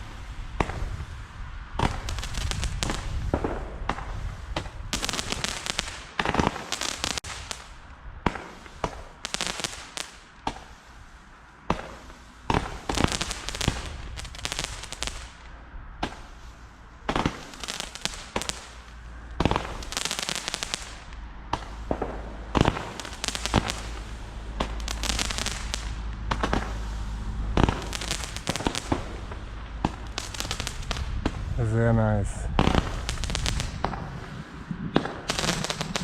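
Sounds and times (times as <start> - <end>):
firework bangs: 0.0 - 36.0
low rumble of fireworks: 0.0 - 36.0
rapid crackling pops: 1.8 - 4.0, 4.6 - 10.6, 11.7 - 16.3, 17.0 - 26.9, 27.5 - 34.3, 34.9 - 36.0.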